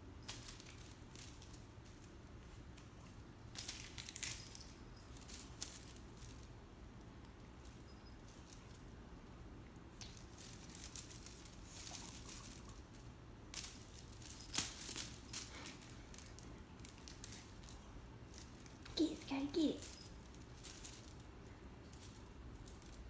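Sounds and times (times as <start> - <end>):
cat playing rustling and tapping: 0.0 - 23.0.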